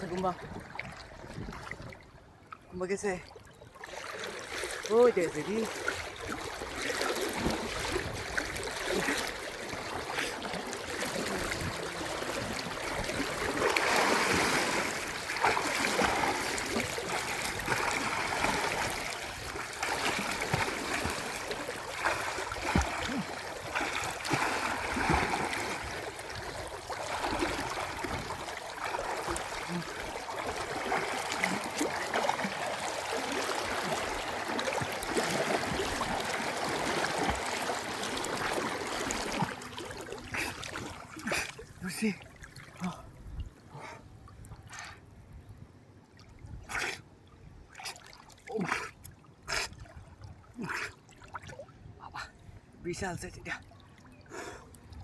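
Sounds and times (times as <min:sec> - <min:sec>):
stream water rushing and gurgling: 0:00.0 - 0:44.1.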